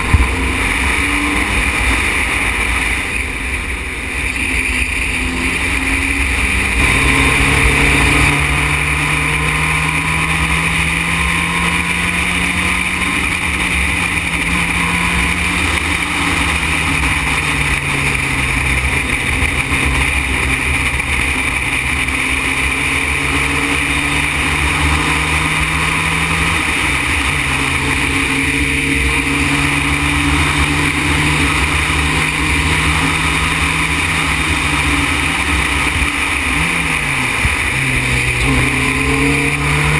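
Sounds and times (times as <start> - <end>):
loud wind noise: 0.0 - 39.9
race car engine at speed: 0.0 - 39.9.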